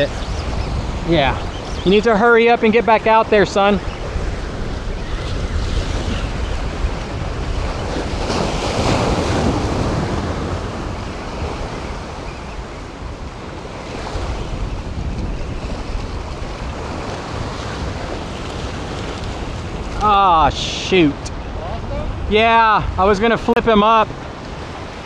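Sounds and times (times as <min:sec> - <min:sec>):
surf washing against rocks: 0:00.0 - 0:25.0
wind buffeting microphone: 0:00.0 - 0:25.0.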